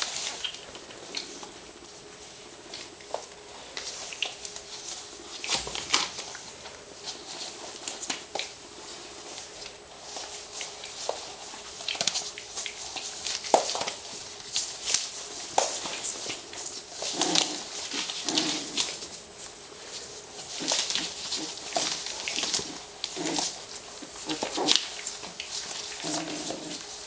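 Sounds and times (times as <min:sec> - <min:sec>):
patter of small paws: 0:00.0 - 0:27.0
newspaper rustling and crinkling: 0:02.8 - 0:27.0.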